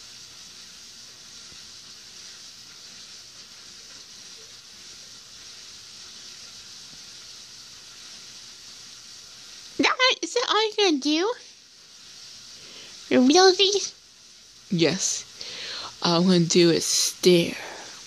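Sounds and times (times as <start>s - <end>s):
high room tone hiss: 0.0s - 18.0s.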